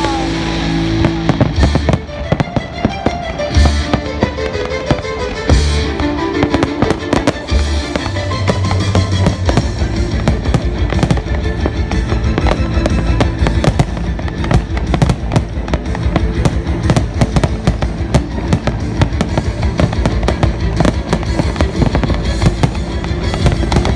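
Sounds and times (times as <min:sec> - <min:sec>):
fireworks bangs and crackles: 0:00.0 - 0:23.9
music playing: 0:00.0 - 0:23.9.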